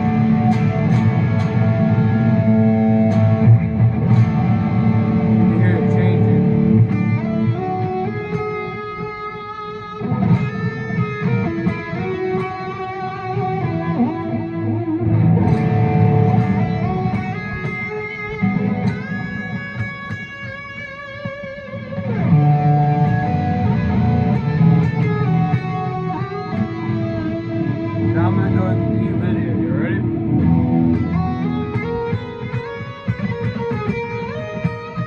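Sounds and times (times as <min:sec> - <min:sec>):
electric guitar with chorus effect: 0:00.0 - 0:35.0.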